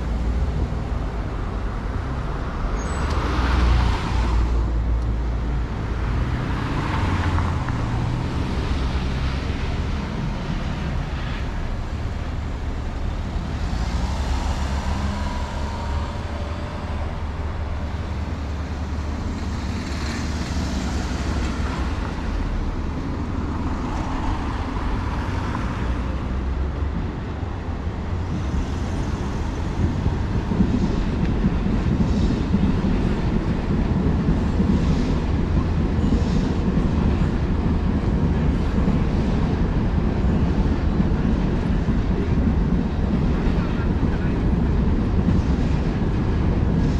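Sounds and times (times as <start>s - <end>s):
city traffic rumble: 0.0s - 46.9s.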